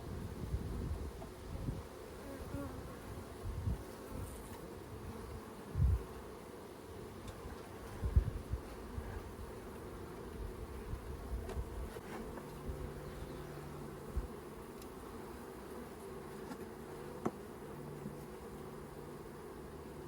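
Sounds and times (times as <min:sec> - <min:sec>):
bees buzzing: 0:00.4 - 0:20.0.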